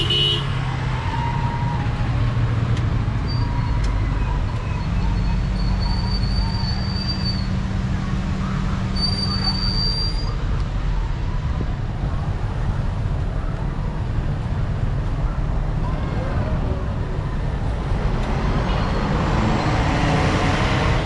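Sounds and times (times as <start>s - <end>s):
bus passing: 0.0s - 21.0s
cars passing: 0.0s - 21.0s
low traffic rumble: 0.0s - 21.0s.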